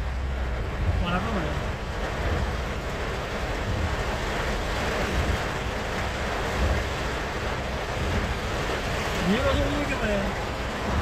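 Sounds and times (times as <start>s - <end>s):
heavy rain: 0.0s - 11.0s
rushing floodwater: 0.0s - 11.0s.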